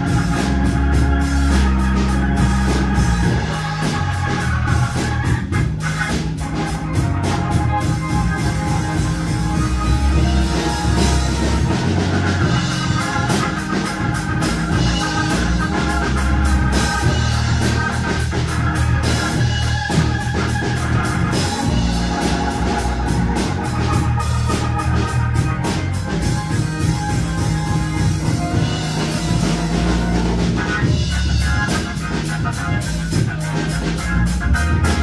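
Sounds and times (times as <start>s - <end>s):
drums steady beat: 0.0s - 35.0s
organ chords: 0.0s - 35.0s.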